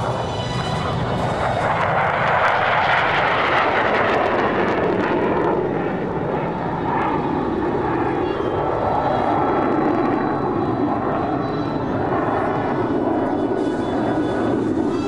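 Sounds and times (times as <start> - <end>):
jet roar: 0.0 - 15.0.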